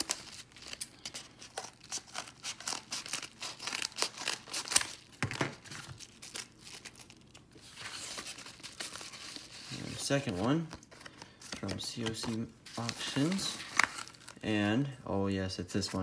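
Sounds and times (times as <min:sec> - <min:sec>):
envelope rustling: 0:00.0 - 0:14.4
paper crinkling: 0:00.0 - 0:14.4.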